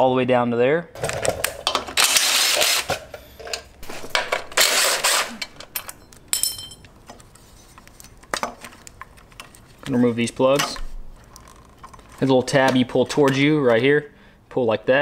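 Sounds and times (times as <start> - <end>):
parts clicking and rattling: 1.0 - 13.9.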